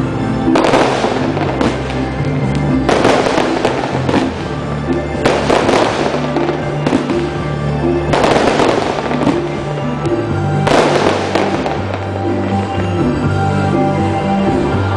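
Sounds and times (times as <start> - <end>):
fireworks bursting and crackling: 0.0 - 14.9
music with bass line: 0.0 - 14.9.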